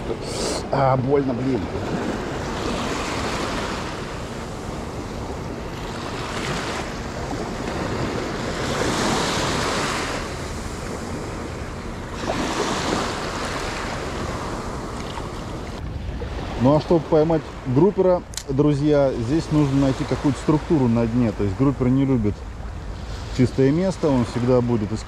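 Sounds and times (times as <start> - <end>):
sea surf washing in: 0.0 - 25.0
wind buffeting microphone: 0.0 - 25.0.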